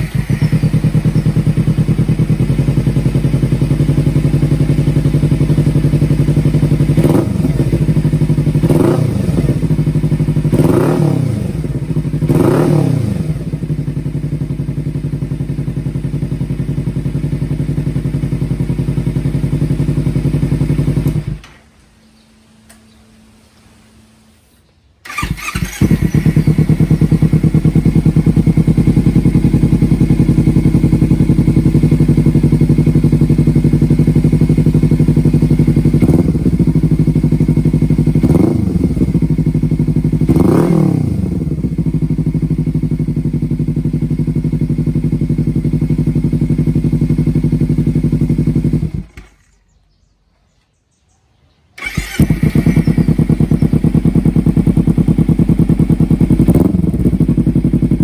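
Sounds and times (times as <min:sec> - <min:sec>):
motorcycle engine idling: 0:00.0 - 0:21.5, 0:25.0 - 0:50.1, 0:51.8 - 0:58.0
motorcycle throttle blips: 0:00.0 - 0:21.6, 0:25.0 - 0:50.1, 0:51.8 - 0:58.0.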